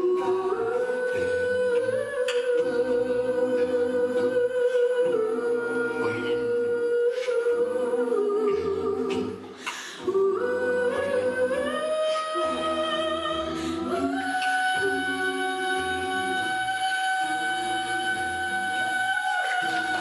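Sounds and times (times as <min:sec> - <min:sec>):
a cappella group singing: 0:00.0 - 0:20.0
vocal bass line: 0:00.0 - 0:20.0.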